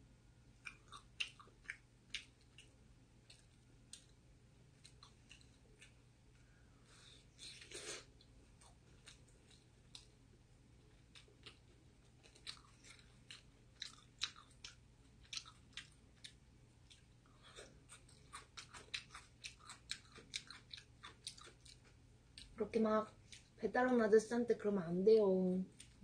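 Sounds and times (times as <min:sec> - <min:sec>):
chewing pizza: 0:00.6 - 0:23.6, 0:25.7 - 0:26.0.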